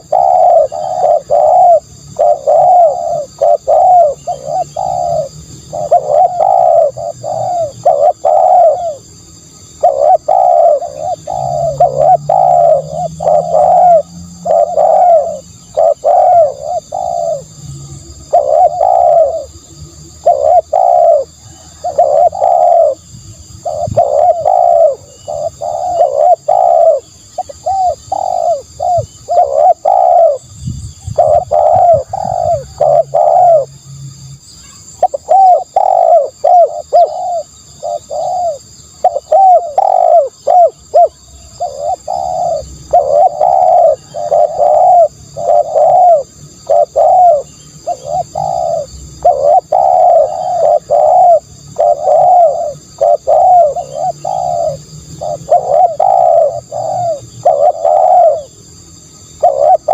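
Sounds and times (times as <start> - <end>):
dove cooing: 0.0 - 33.8, 34.6 - 59.9.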